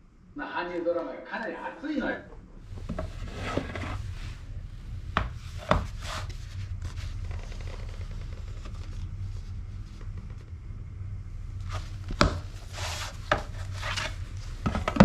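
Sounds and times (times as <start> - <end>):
steady low hum: 0.0 - 15.0
faint rubbing: 2.6 - 15.0.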